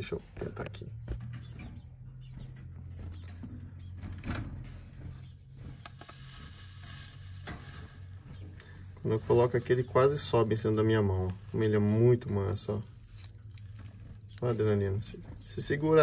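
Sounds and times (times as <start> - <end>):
steady low hum: 0.0 - 16.0
high-pitched bird peeps: 0.6 - 16.0.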